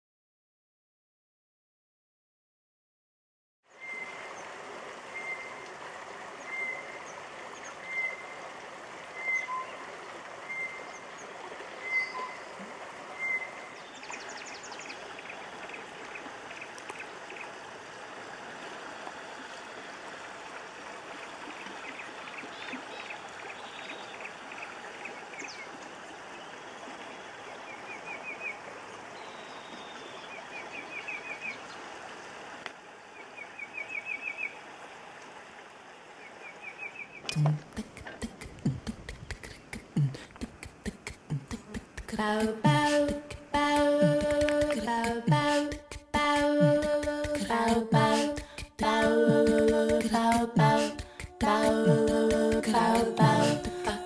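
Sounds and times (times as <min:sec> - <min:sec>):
river flowing over riffles: 0:03.8 - 0:54.0.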